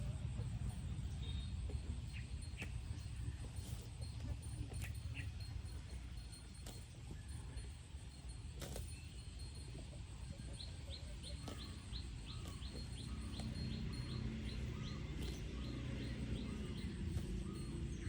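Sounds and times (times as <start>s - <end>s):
bird chirping: 0.0s - 18.0s
low outdoor rumble: 0.0s - 18.0s.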